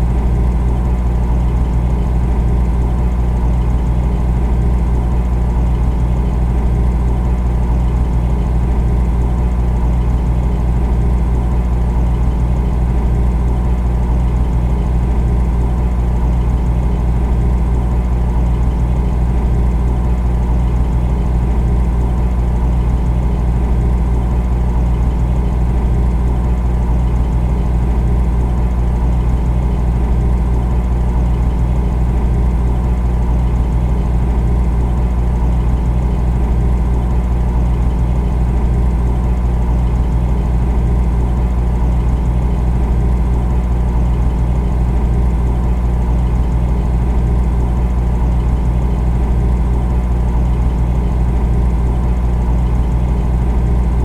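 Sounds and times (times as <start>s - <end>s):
refrigerator compressor humming: 0.0s - 54.0s.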